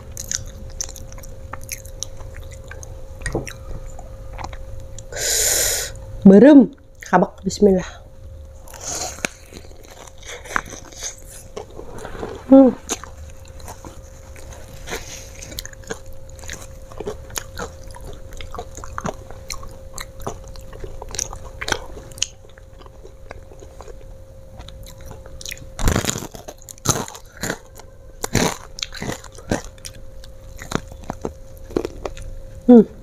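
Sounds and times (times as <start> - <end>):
crunching fried chicken: 0.0 - 5.1, 8.6 - 32.6.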